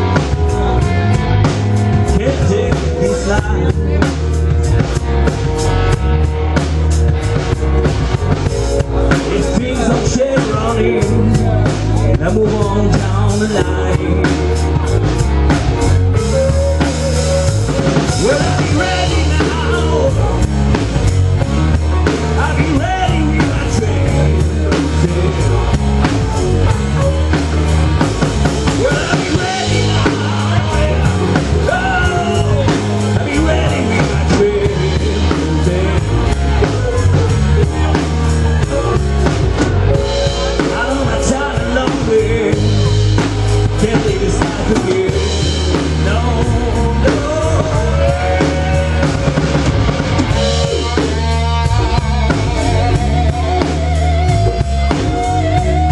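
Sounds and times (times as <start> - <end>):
drum kit: 0.0 - 55.9
electric guitar lead: 0.0 - 55.9
heavy bass: 0.0 - 55.9.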